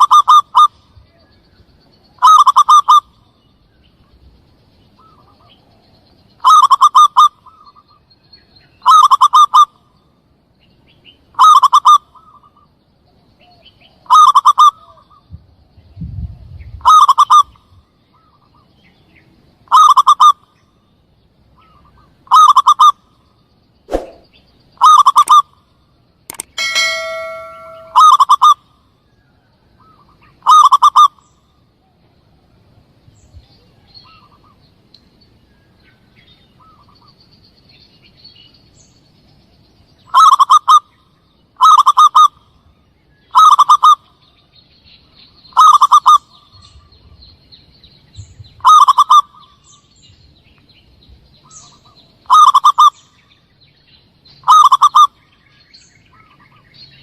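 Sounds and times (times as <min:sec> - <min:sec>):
faint high chirping: 0:00.0 - 0:57.0.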